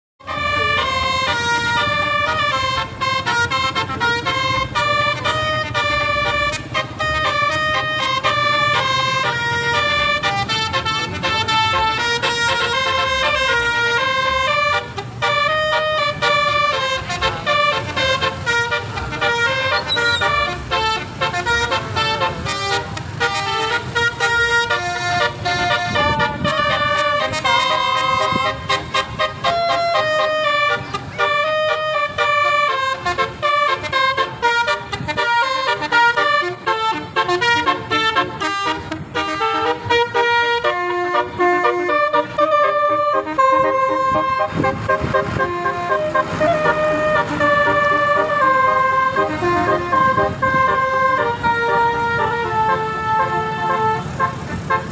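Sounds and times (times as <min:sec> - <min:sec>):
bus horn playing melodic tunes: 0:00.2 - 0:54.9.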